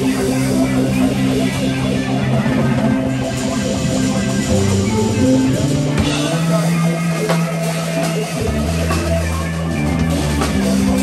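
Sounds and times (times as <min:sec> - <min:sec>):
electric bass low notes: 0:00.0 - 0:11.0
electric guitar lead: 0:00.0 - 0:11.0
jazz-funk band playing: 0:00.0 - 0:11.0.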